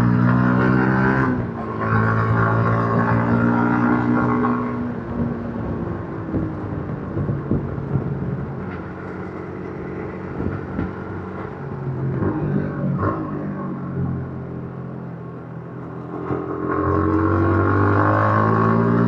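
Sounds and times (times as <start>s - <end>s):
motorcycle engine riding: 0.0s - 19.0s
wind and road noise: 0.0s - 19.0s.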